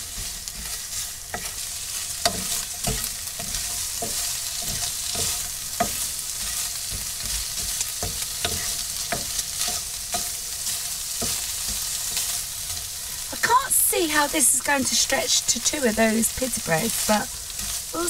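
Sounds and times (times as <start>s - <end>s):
wooden spatula scraping a pan: 0.0s - 13.6s, 15.5s - 18.0s
meat sizzling in a frying pan: 0.0s - 18.0s.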